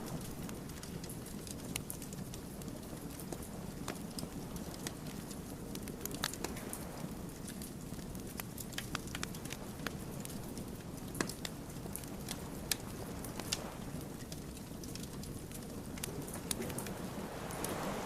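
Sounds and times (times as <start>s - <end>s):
logs crackling and popping: 0.0s - 18.0s
wood fire rumbling: 0.0s - 18.0s.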